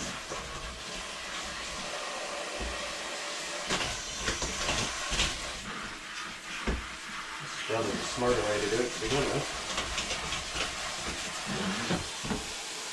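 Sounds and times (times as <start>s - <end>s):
steady rushing hiss: 0.0s - 12.9s.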